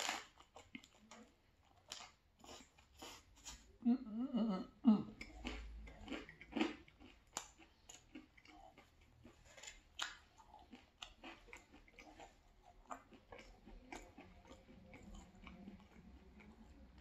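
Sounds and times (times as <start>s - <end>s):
person chewing crisp pizza: 0.0s - 3.8s, 4.4s - 17.0s.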